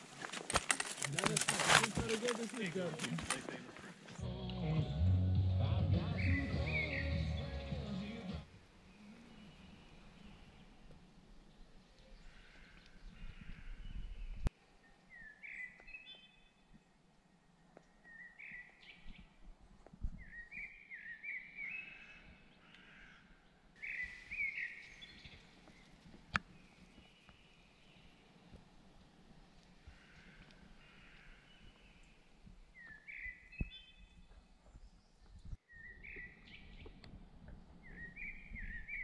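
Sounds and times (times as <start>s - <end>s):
faint birdsong: 5.8s - 39.0s.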